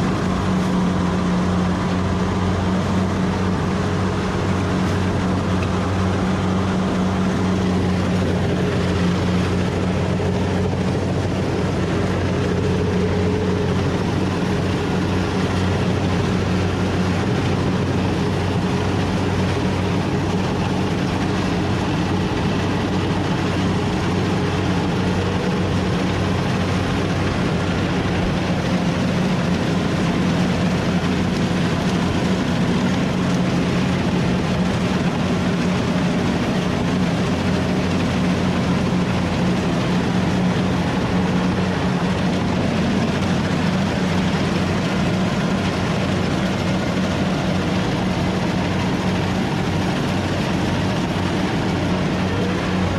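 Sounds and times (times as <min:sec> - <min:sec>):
harvester engine running: 0:00.0 - 0:52.9.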